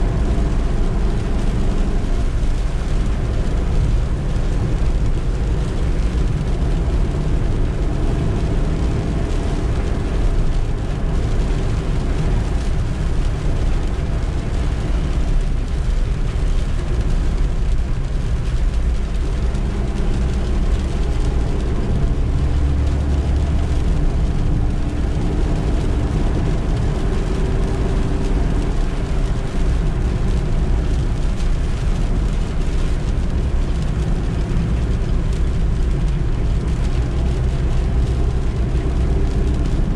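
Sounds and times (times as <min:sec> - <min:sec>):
low road rumble: 0:00.0 - 0:39.9
van engine running: 0:00.0 - 0:39.9.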